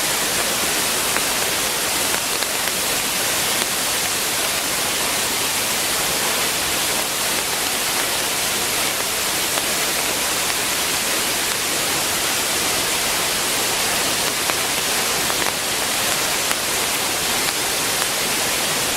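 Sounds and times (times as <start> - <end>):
waterfall rushing: 0.0 - 18.9.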